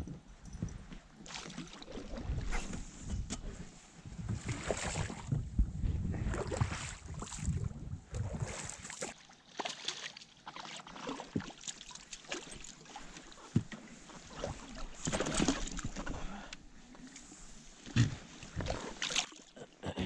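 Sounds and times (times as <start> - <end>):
knocks and rustling in boat: 0.0 - 9.7, 10.4 - 16.3, 17.6 - 19.3.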